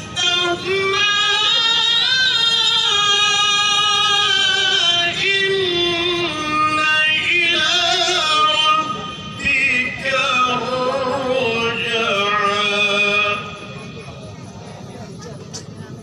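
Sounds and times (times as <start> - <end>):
solo voice melodic recitation: 0.0 - 13.4.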